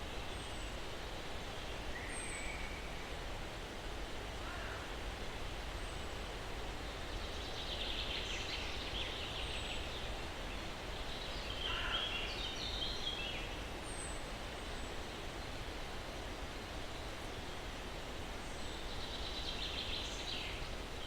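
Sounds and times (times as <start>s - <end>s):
breeze in pine trees: 0.0s - 21.0s.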